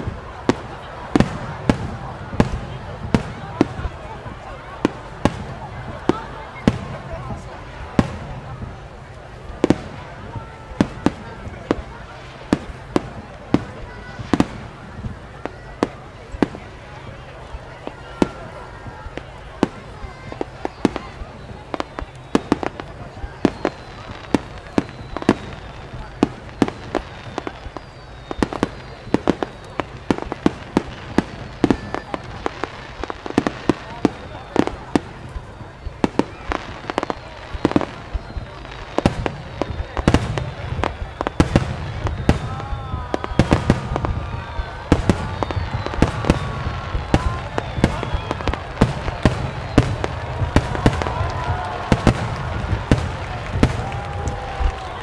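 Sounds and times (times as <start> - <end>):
faint fireworks whistling: 0.0 - 55.0
fireworks bangs echoing: 0.0 - 55.0.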